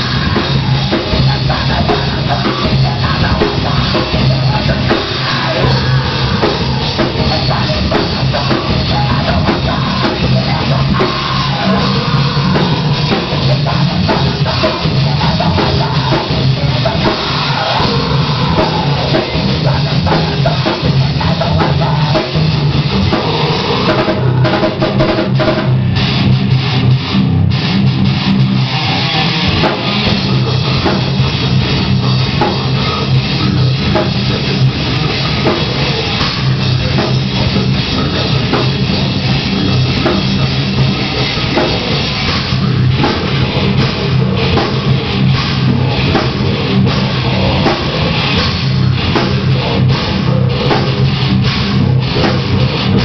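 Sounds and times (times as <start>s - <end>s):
electric guitar: 0.0s - 53.0s
pounding drum kit: 0.0s - 53.0s.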